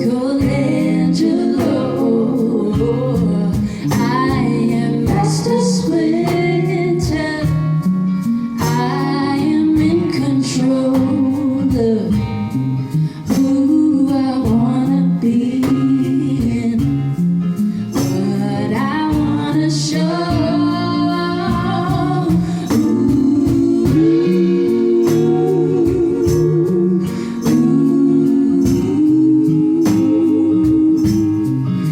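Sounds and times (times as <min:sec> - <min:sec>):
plucked guitar: 0:00.0 - 0:31.9
woman singing pop song: 0:00.0 - 0:31.9.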